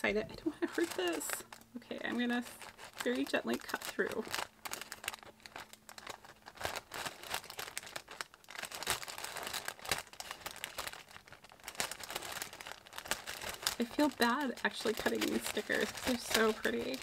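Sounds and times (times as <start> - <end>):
tissue paper rustling: 0.4 - 17.0.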